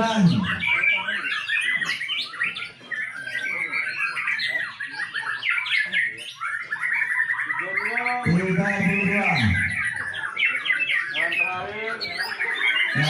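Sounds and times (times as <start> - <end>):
caged songbirds singing: 0.0 - 13.0.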